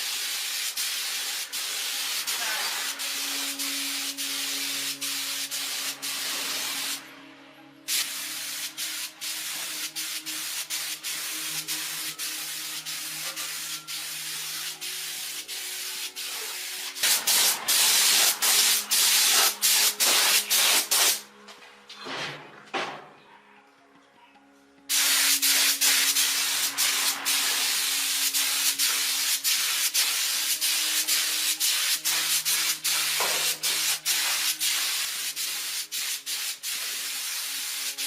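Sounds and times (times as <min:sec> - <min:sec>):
pressurised air spraying hiss: 0:00.0 - 0:07.0, 0:07.9 - 0:21.2, 0:24.9 - 0:38.0.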